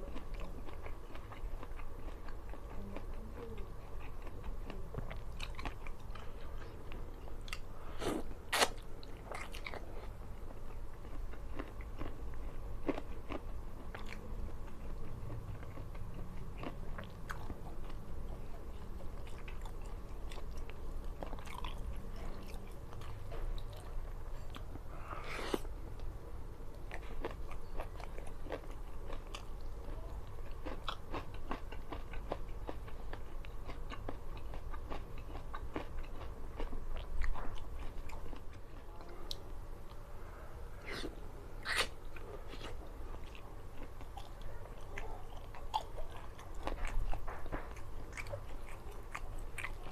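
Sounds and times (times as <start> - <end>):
person chewing wetly: 0.0 - 26.1, 26.7 - 40.0, 40.8 - 49.9.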